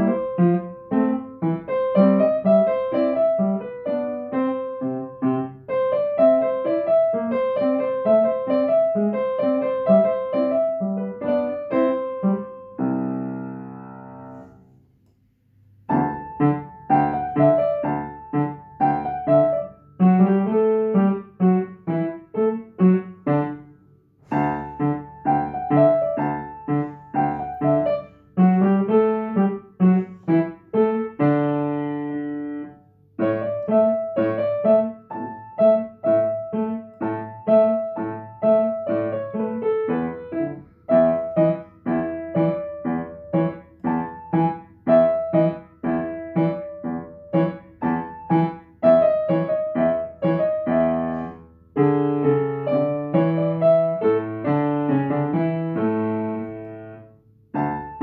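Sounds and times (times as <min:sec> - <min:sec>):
acoustic piano playing: 0:00.0 - 0:14.8, 0:15.4 - 0:58.0.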